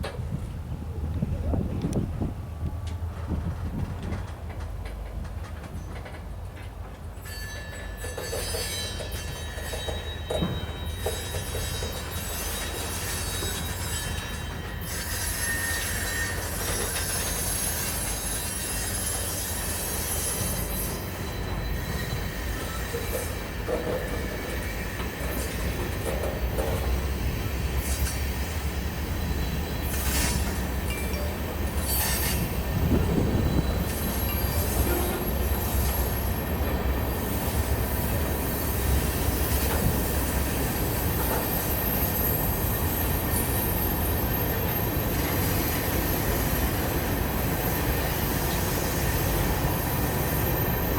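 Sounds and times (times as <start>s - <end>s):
freight train rumbling past: 0.0s - 50.9s
train wheels squealing: 7.1s - 50.9s.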